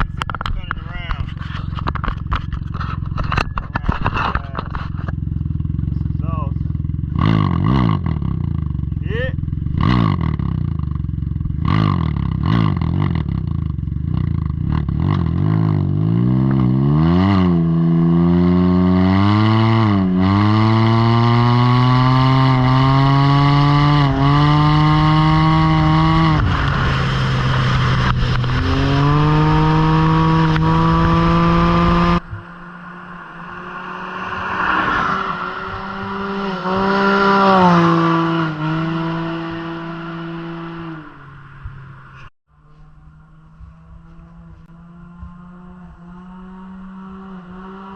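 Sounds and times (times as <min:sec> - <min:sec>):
exhaust pass-by: 0:00.0 - 0:47.9
motorcycle engine accelerating: 0:00.0 - 0:47.9.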